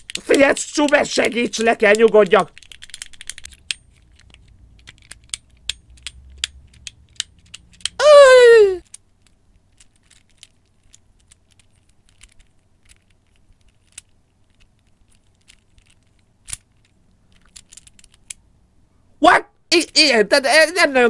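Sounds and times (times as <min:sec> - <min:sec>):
fidget cube clicking: 0:00.0 - 0:08.0, 0:08.8 - 0:18.5.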